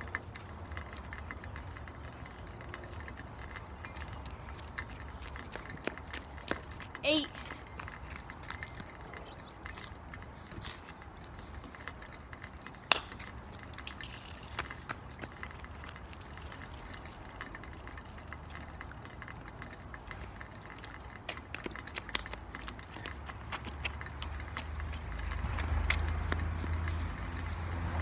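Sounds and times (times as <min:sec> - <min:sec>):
footsteps on road: 0:00.0 - 0:28.0.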